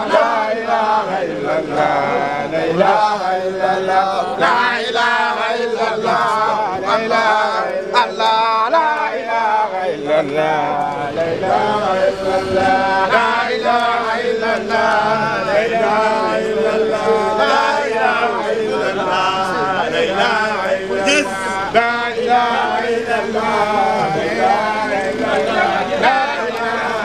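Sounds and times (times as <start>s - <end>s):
men chanting devotional verses: 0.0s - 27.0s.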